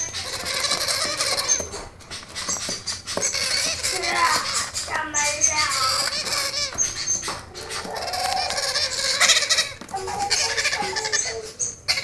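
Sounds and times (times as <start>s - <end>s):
parrot chicks begging calls: 0.0s - 12.0s.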